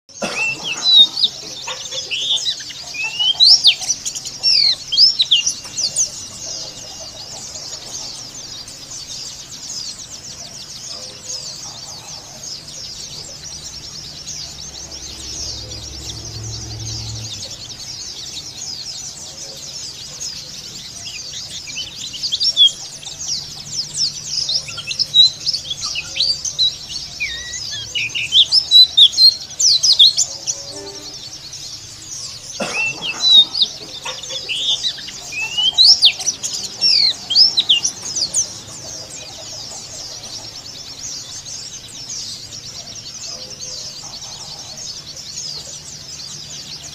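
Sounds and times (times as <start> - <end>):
small bird twittering: 0.1 - 46.9.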